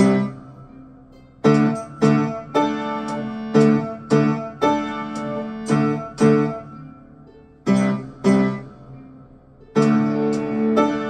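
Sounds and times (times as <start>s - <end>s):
upright piano chords: 0.0s - 11.0s.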